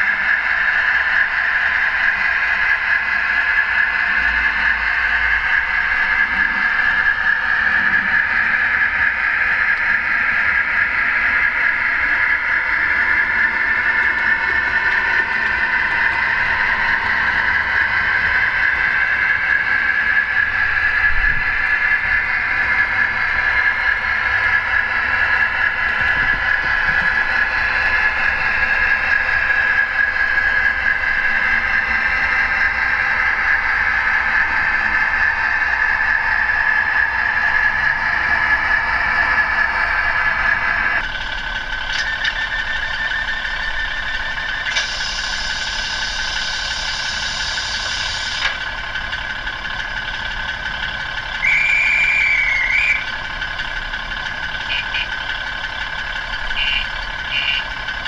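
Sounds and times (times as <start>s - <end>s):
model locomotive motor whine: 0.0s - 58.0s.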